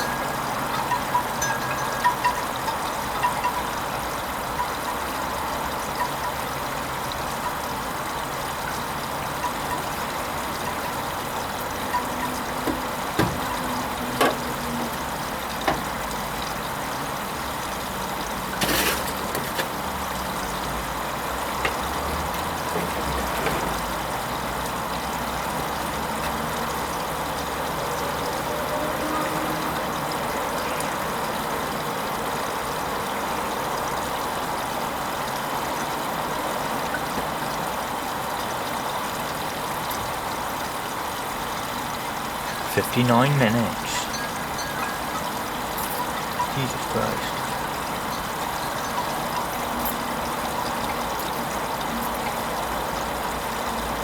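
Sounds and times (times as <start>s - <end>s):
water rushing into washing machine: 0.0s - 54.0s.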